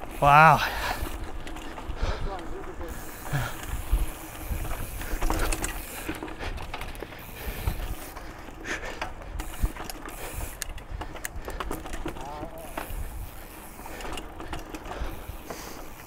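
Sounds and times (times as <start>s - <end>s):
bike drivetrain clicking and rattling: 0.0s - 16.0s
wheels rumbling on rough ground: 0.0s - 16.0s.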